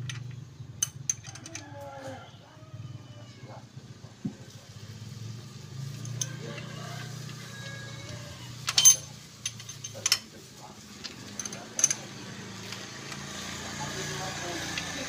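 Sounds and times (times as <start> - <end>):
vehicle engine humming: 0.0 - 1.6, 3.7 - 15.0.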